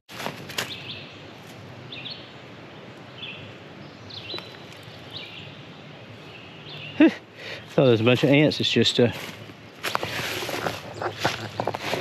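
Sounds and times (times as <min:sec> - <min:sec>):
songbird chirping: 0:00.6 - 0:12.0.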